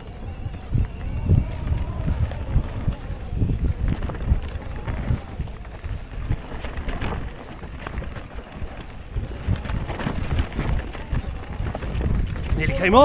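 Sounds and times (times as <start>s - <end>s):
mountain bike rattling over trail: 0.0s - 13.0s.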